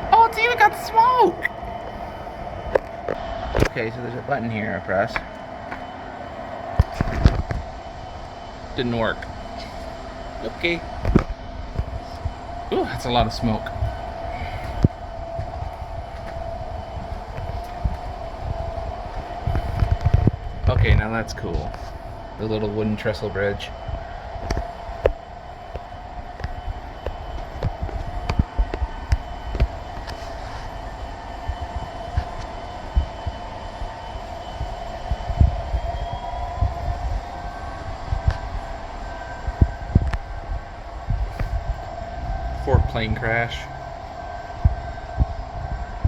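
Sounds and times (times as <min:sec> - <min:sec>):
model train whine and rumble: 0:00.0 - 0:46.0.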